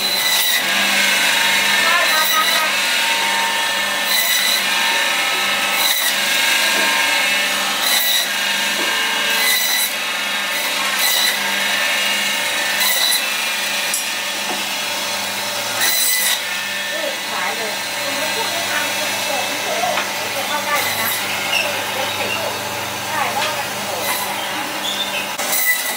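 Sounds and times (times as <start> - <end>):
band saw cutting meat and bone: 0.0 - 25.9.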